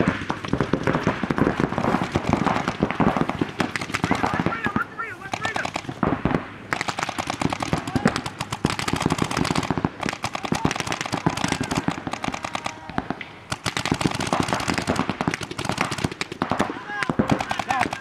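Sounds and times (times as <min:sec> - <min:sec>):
paintball markers firing: 0:00.0 - 0:18.0.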